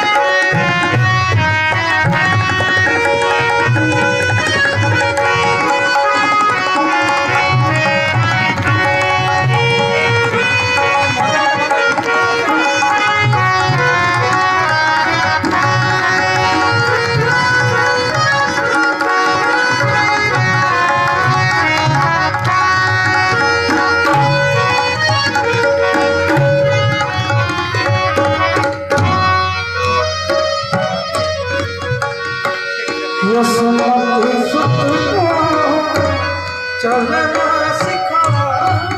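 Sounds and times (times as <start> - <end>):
held melodic accompaniment: 0.0 - 38.9
tabla rhythm: 0.0 - 38.9.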